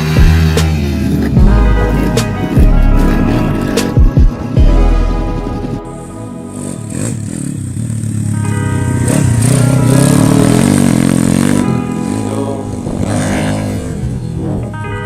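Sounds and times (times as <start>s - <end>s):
motorcycle engine revving: 0.0s - 14.9s
background music: 0.0s - 15.0s.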